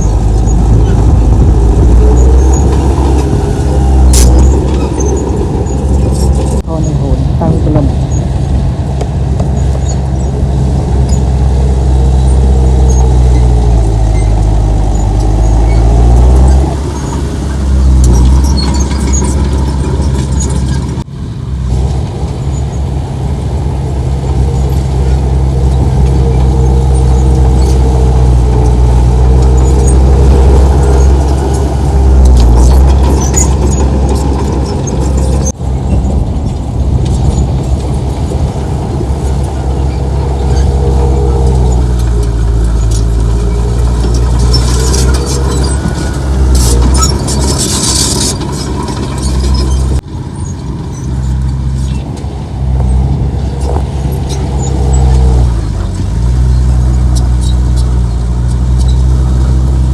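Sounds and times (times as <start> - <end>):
heavy diesel machinery under load: 0.0 - 59.9.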